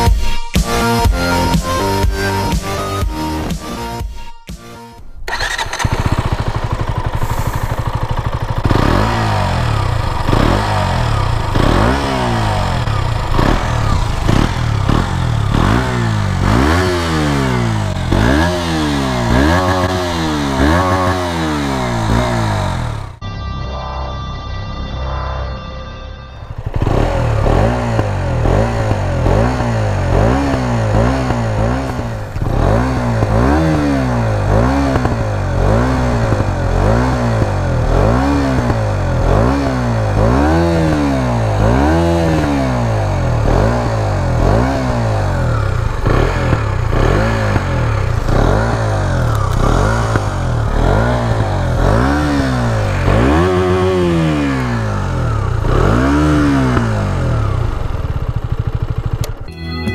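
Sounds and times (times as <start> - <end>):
motorcycle engine revving in blips: 5.2 - 23.2, 26.6 - 59.9.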